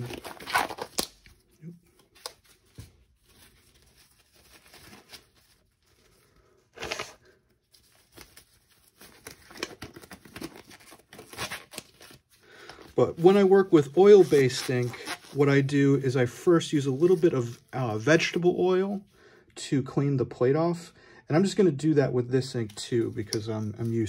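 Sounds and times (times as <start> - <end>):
rubber gloves rustling and stretching: 0.0 - 19.2, 22.4 - 24.0.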